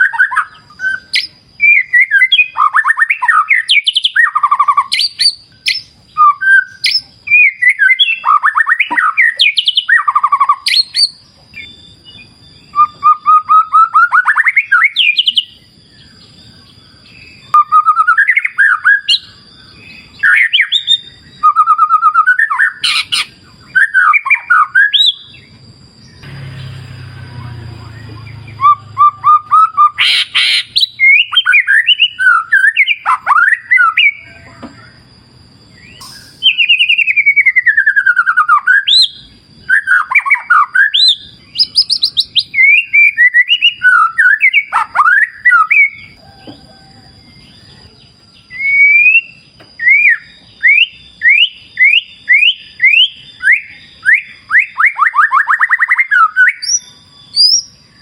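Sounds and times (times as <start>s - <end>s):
bird singing whistled phrases: 0.0s - 58.0s.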